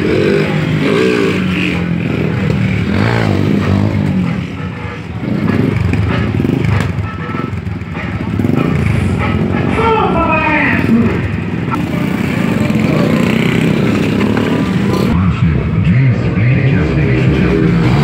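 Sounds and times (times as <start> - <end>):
motorcycle engine revving: 0.0 - 15.2, 16.8 - 18.0.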